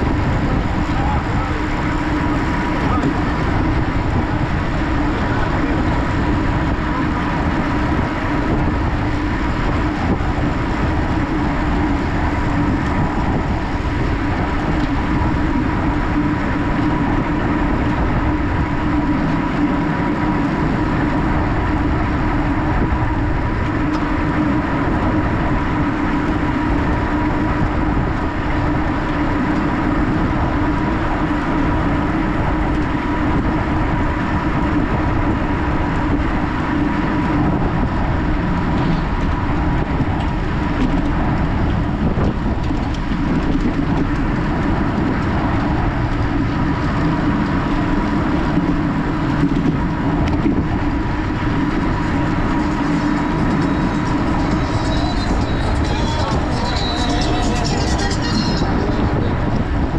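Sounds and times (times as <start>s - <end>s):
steady hum: 0.0s - 59.9s
tyres rolling on pavement: 0.0s - 59.9s
wind rushing on microphone: 0.0s - 59.9s.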